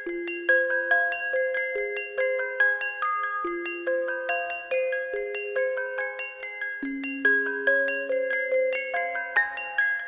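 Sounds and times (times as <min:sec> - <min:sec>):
music box melody: 0:00.0 - 0:10.0.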